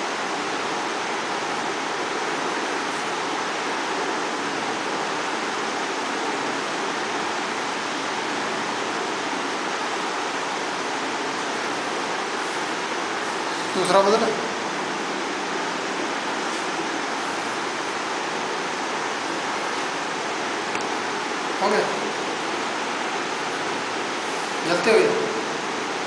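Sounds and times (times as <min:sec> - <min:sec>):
steady rushing hiss: 0:00.0 - 0:26.0.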